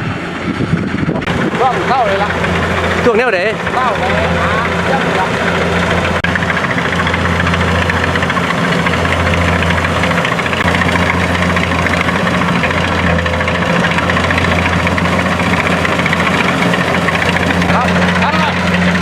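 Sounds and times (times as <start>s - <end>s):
engine running with clatter: 0.0s - 19.0s.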